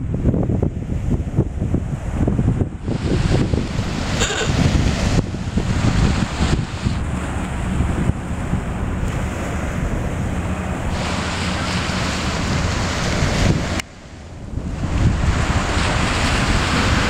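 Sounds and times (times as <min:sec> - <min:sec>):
waves breaking on shore: 0:00.0 - 0:17.0
wind buffeting microphone: 0:00.0 - 0:17.0.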